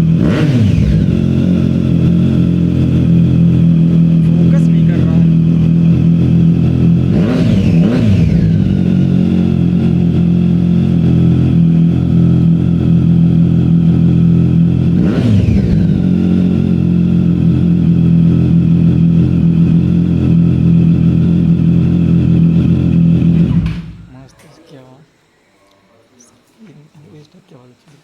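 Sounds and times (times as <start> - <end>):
motorcycle engine idling and revving: 0.0 - 24.2.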